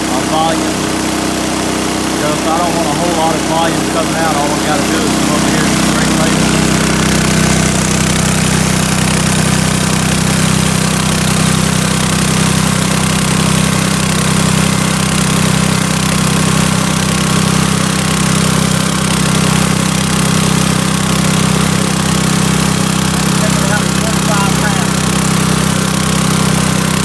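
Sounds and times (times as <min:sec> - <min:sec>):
small gasoline engine running: 0:00.0 - 0:27.0.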